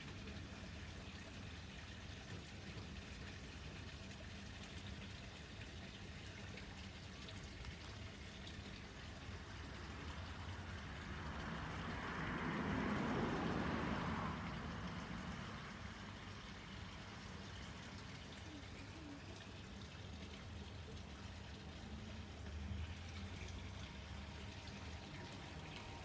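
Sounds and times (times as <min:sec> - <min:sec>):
low outdoor background hum: 0:00.0 - 0:26.0.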